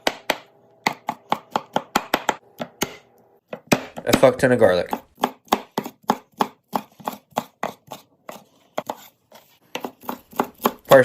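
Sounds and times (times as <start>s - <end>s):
knife chopping on cutting board: 0.0s - 11.0s.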